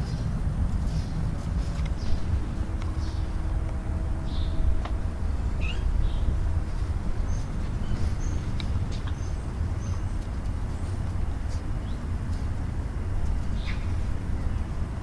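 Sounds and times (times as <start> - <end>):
steady low rumble: 0.0 - 15.0
small birds chirping: 0.9 - 12.2, 13.2 - 14.8.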